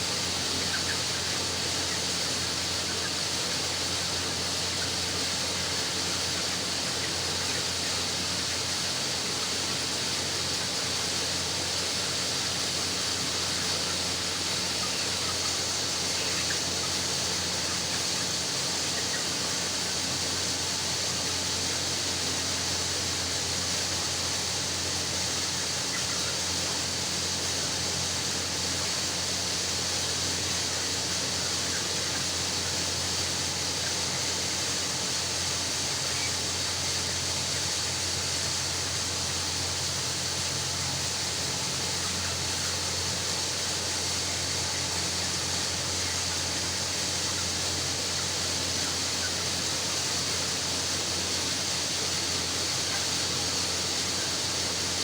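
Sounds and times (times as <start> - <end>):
poultry house din: 0.0 - 55.0.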